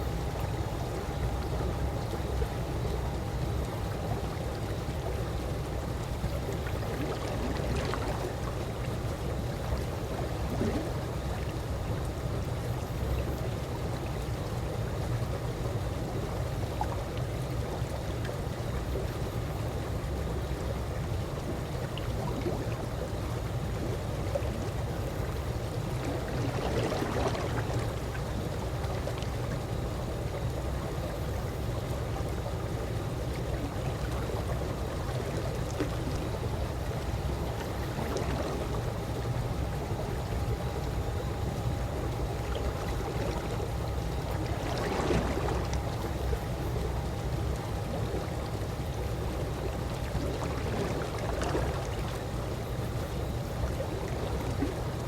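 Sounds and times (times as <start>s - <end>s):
pool water lapping gently: 0.0s - 55.0s.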